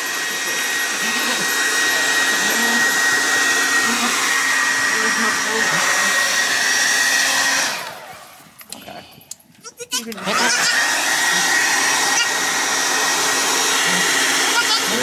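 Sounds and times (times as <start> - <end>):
electric blower motor whining: 0.0 - 8.8, 10.0 - 15.0.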